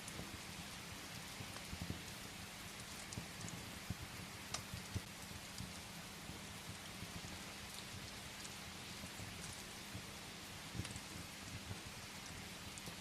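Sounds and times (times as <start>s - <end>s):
rain tapping on a window: 0.0s - 13.0s
wood fire crackling: 0.0s - 13.0s.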